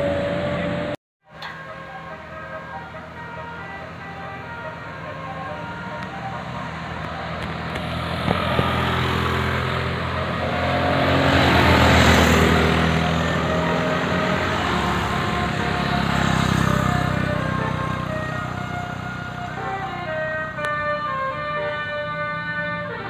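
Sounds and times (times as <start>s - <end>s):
bus engine passing: 0.0s - 23.0s.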